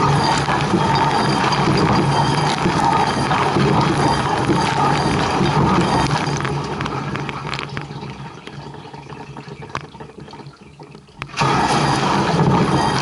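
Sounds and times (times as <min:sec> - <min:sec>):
wash pump humming: 0:00.0 - 0:13.0
water dripping and tapping: 0:00.0 - 0:13.0.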